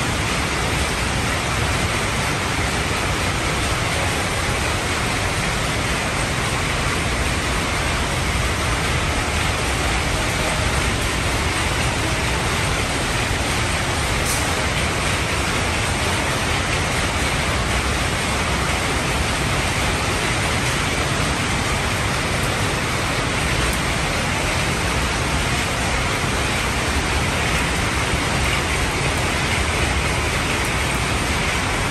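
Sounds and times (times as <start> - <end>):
printing machine rushing noise: 0.0 - 31.9.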